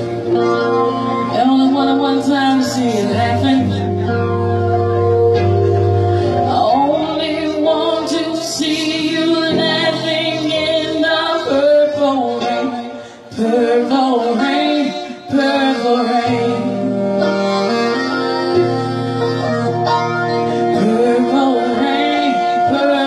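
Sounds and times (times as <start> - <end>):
woman singing into a microphone: 0.0 - 23.0.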